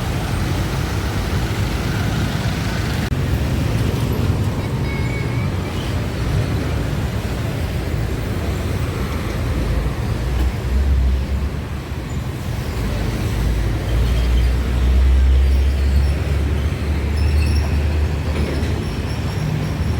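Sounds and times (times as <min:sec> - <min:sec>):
heavy vehicle engine rumble: 0:00.0 - 0:19.9
highway traffic passing: 0:00.0 - 0:19.9.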